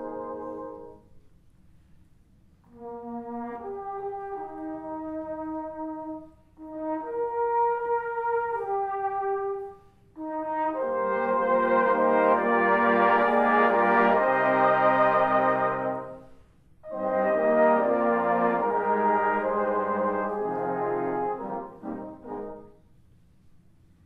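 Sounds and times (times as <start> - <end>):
brass band music: 0.0 - 1.2, 2.6 - 23.0.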